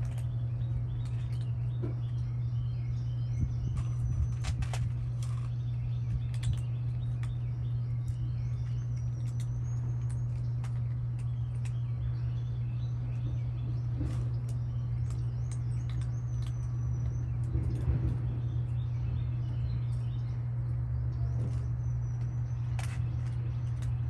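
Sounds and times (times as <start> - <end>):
cats crunching dry food: 0.0 - 24.0
small birds chirping: 0.0 - 24.0
steady low hum: 0.0 - 24.0.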